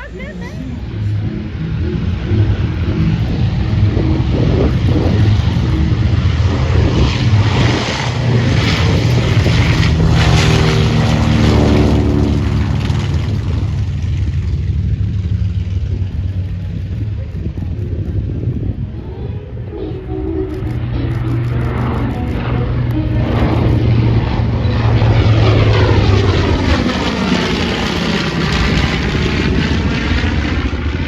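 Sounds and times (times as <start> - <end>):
aircraft engines passing by: 0.0 - 31.0.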